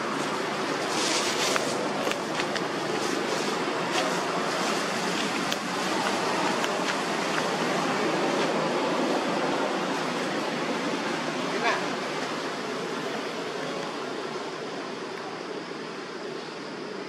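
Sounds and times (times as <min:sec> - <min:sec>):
steady outdoor rushing noise: 0:00.0 - 0:17.0.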